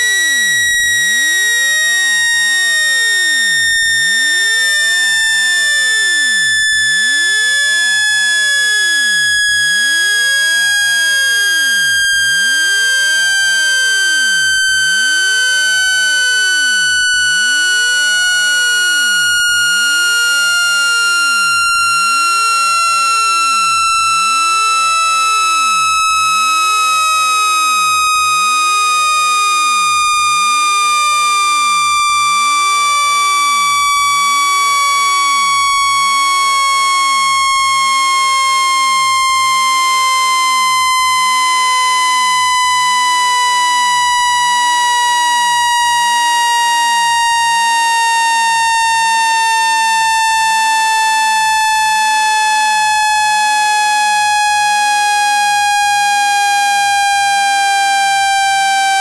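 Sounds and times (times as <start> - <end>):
buzzy electronic tone gliding downward: 5.8 - 54.2.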